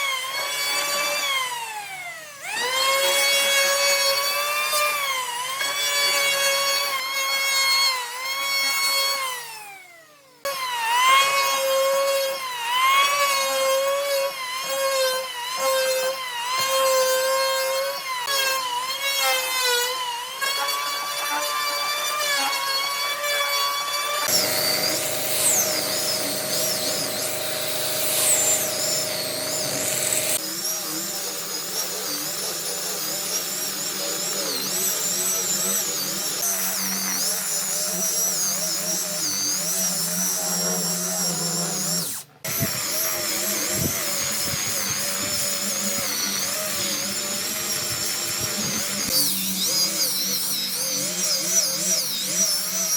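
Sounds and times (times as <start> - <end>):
power tool whining on wood: 0.0 - 52.9.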